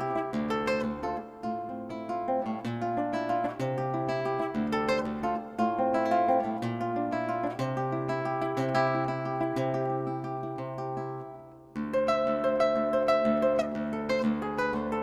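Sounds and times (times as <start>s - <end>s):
solo acoustic guitar: 0.0s - 15.0s.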